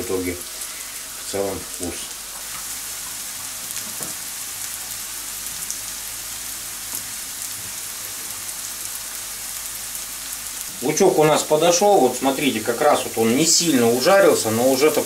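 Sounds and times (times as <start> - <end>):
onion sizzling in a frying pan: 0.0 - 15.0.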